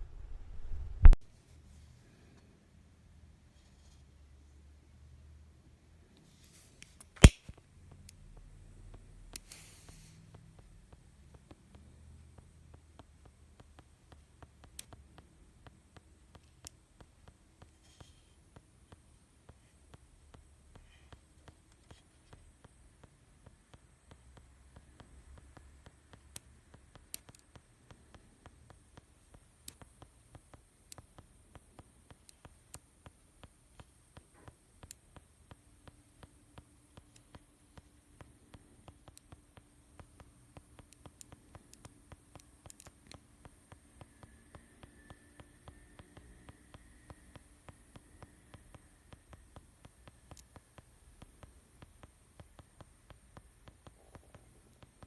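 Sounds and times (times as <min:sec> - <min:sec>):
fast faint clicking: 0:10.4 - 0:55.0.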